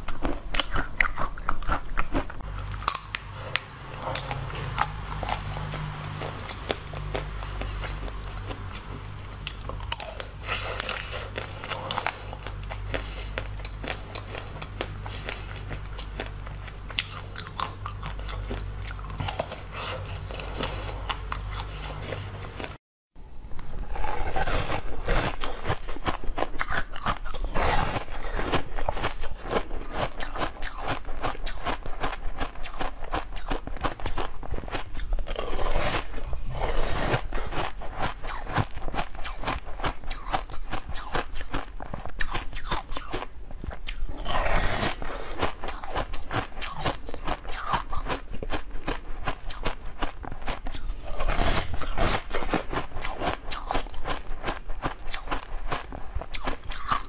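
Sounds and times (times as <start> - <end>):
person chewing and crunching: 0.0 - 22.8, 23.6 - 57.0
wet eating clicks and crackles: 0.0 - 22.8, 24.0 - 57.0.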